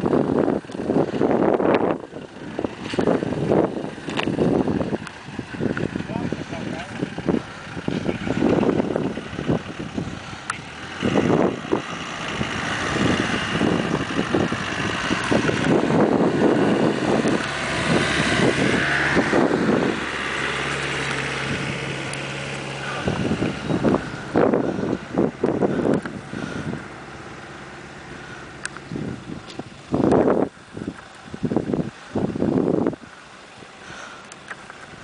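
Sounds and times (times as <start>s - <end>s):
off-road vehicle engine: 0.0s - 35.0s
vehicle buffeting over rough ground: 0.0s - 35.0s.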